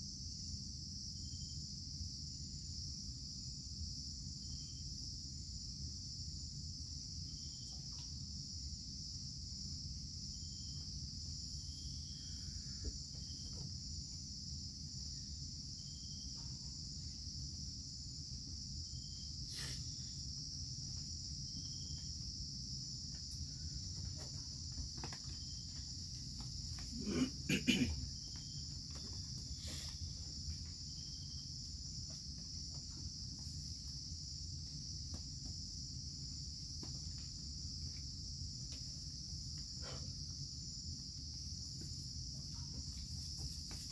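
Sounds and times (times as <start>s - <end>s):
insects chorus: 0.0s - 43.9s.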